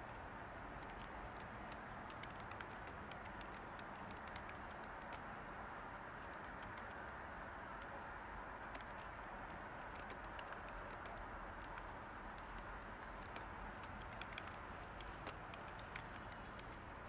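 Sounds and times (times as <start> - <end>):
computer keyboard clicks: 0.0 - 5.3, 6.2 - 7.0, 8.6 - 16.9
white noise hiss: 0.0 - 17.0.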